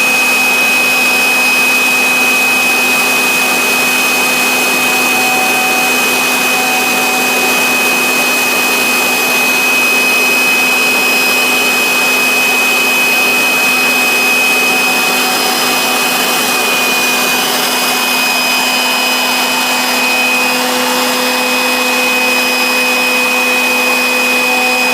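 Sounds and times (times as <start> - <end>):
router spindle high whine: 0.0 - 24.9.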